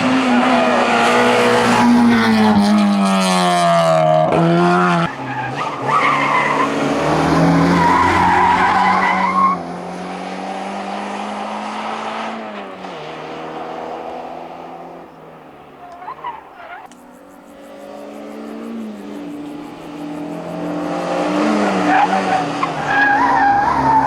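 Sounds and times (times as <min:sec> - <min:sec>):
race car engine at full throttle: 0:00.0 - 0:24.0.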